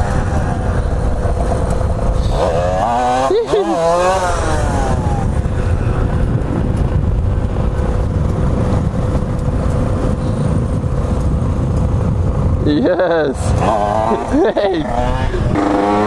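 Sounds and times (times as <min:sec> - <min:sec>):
motorcycle engine riding: 0:00.0 - 0:16.0
wind buffeting microphone: 0:00.0 - 0:16.0.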